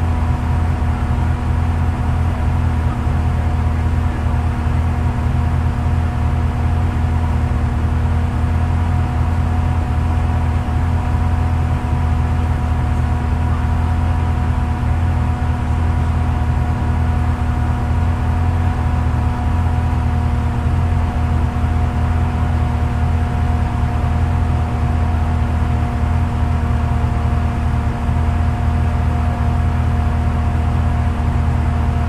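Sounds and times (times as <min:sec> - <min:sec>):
off-road vehicle engine idling: 0:00.0 - 0:32.0.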